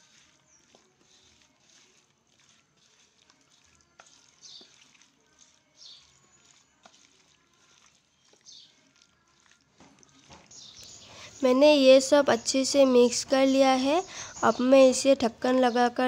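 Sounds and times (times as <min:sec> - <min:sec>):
wet squelching of hand mixing meat: 0:00.0 - 0:15.9.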